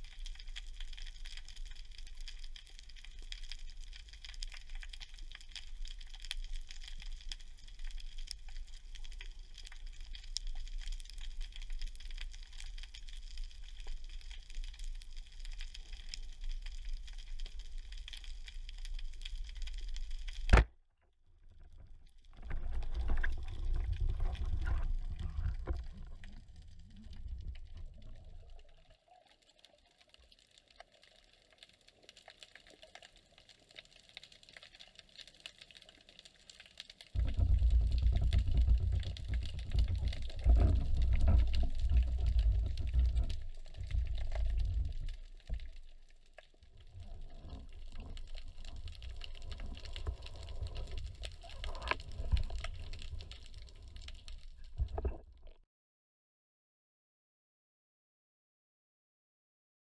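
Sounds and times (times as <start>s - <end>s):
underwater crackling rumble: 0.0s - 20.7s, 21.3s - 55.6s.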